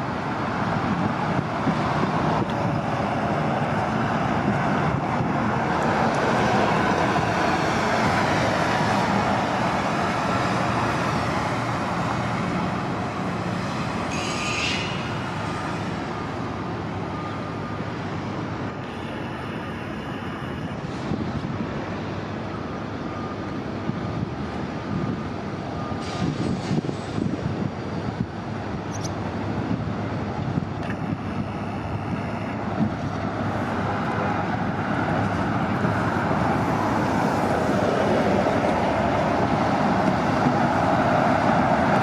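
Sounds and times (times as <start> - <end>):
buses engine and road noise: 0.0 - 42.0.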